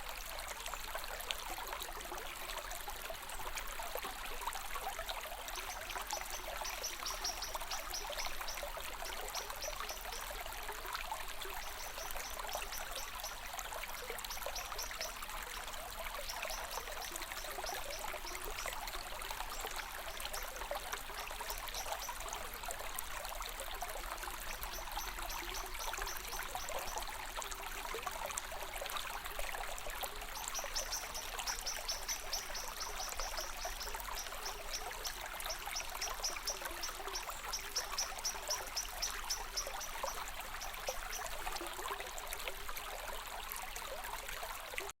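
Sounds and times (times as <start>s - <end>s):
water trickling and bubbling: 0.0s - 44.9s.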